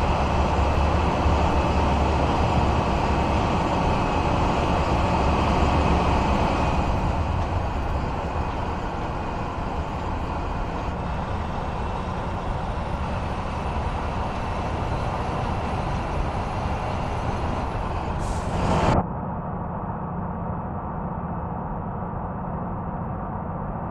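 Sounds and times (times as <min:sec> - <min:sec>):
truck engine and road noise: 0:00.0 - 0:23.9.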